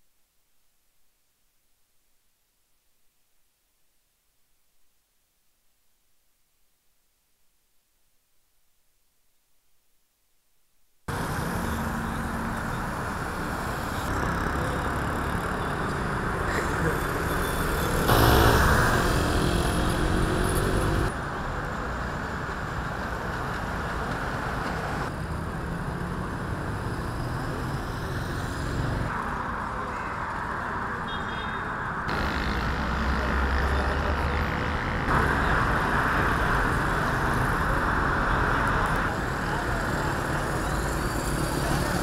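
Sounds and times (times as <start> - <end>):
outdoor ambient noise: 0.0 - 42.0.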